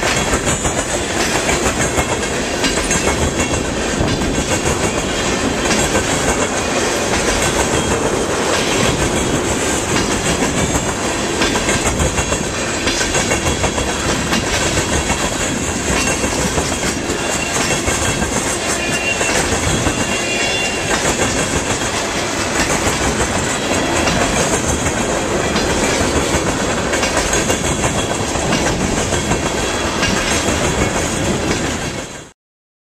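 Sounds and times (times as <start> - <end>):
train wheels clattering over rail joints: 0.0 - 32.3.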